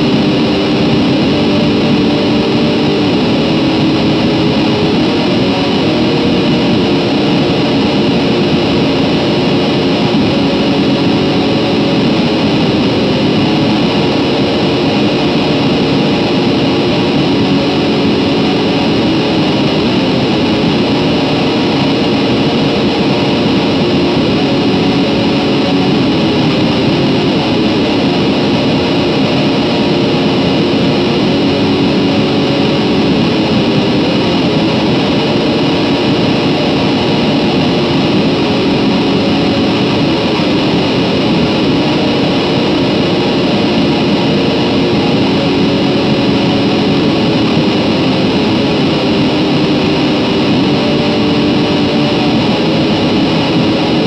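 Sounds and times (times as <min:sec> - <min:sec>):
heavily distorted electric guitar: 0:00.0 - 0:54.0.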